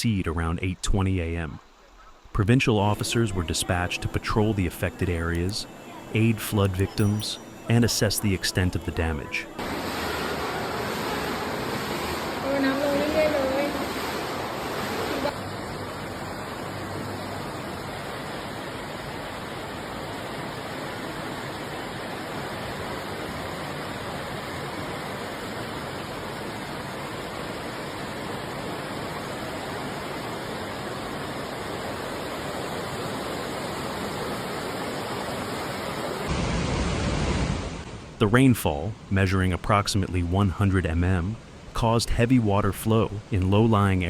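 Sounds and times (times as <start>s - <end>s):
floodwater rushing: 2.4s - 44.0s.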